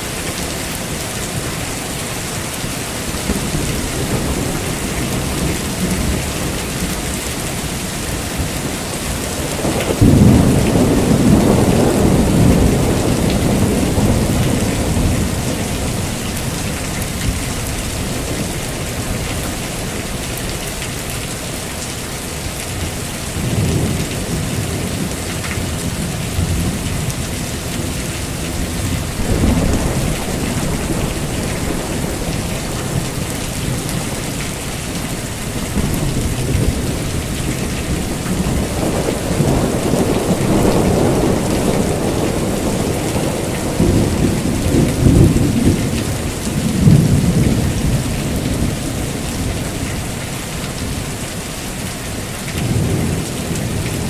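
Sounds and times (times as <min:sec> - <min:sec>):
heavy rain falling: 0:00.0 - 0:54.0
thunder rumbling: 0:01.3 - 0:20.6, 0:23.3 - 0:51.2.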